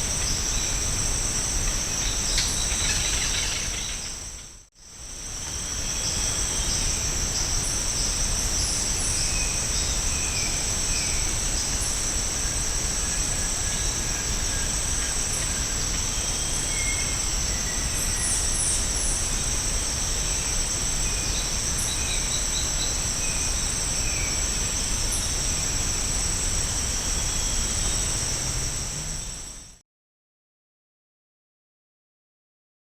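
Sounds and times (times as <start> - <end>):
insect chorus: 0.0 - 29.8.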